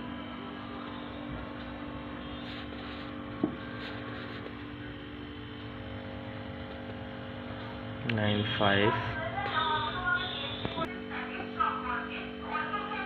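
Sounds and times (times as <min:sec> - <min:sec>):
refrigerator compressor humming: 0:00.0 - 0:13.0.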